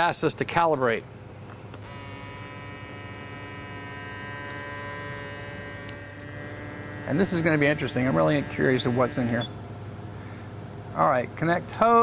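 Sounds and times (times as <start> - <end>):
electric hum: 0.0 - 12.0.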